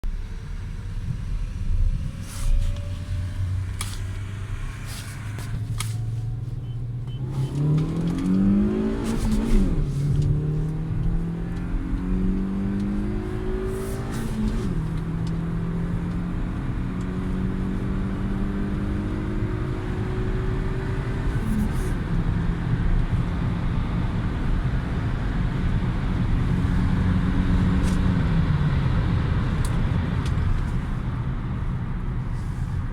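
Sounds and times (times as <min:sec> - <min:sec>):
car engine accelerating through gears: 0:00.2 - 0:32.9.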